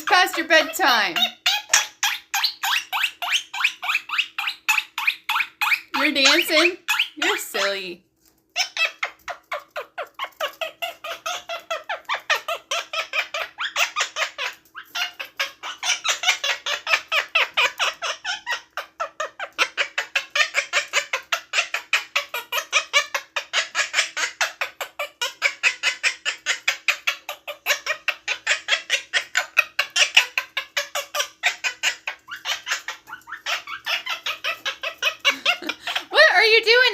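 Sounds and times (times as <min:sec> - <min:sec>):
parrot chattering calls: 0:00.0 - 0:36.9.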